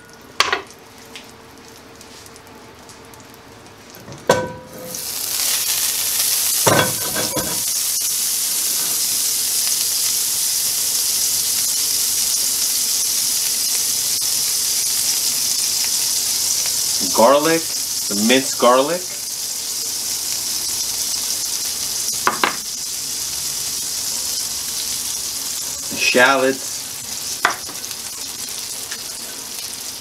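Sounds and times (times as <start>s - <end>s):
butter sizzling in skillet: 0.0s - 30.0s.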